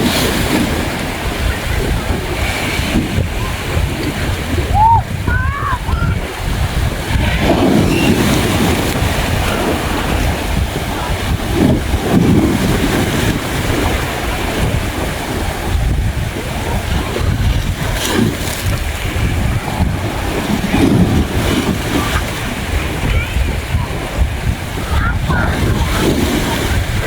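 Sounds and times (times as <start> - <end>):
sea waves washing onto beach: 0.0 - 27.0
wind rumbling on microphone: 0.0 - 27.0.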